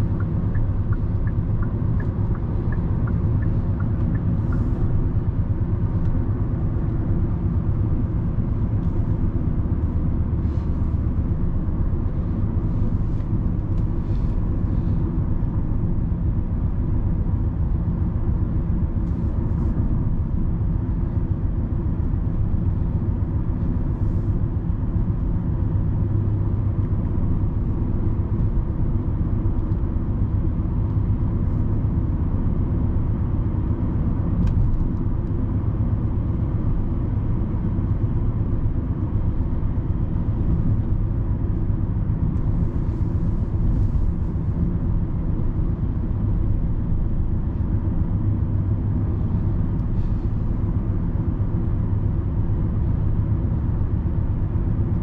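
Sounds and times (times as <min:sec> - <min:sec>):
engine hum: 0:00.0 - 0:55.0
road and tyre noise: 0:00.0 - 0:55.0.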